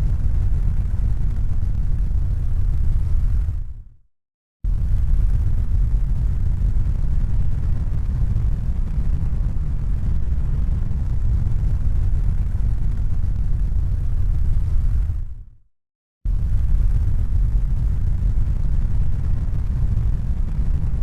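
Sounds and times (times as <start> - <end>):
deep rumble: 0.0 - 4.0, 4.7 - 15.6, 16.3 - 21.0.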